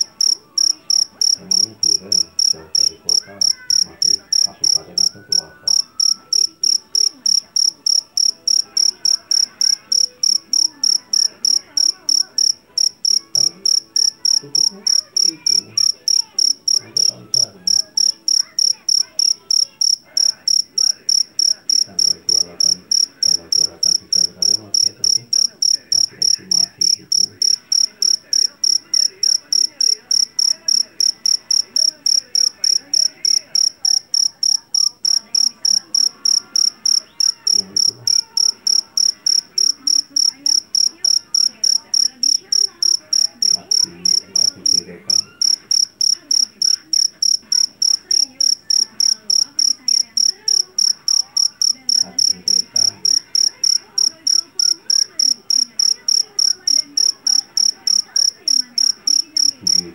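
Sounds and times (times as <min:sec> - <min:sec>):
field cricket chirping: 0:00.0 - 0:59.9.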